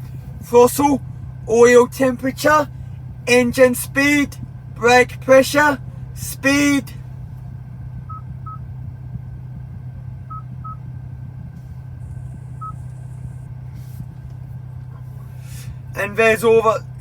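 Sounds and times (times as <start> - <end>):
car engine idling hum: 0.0 - 17.0.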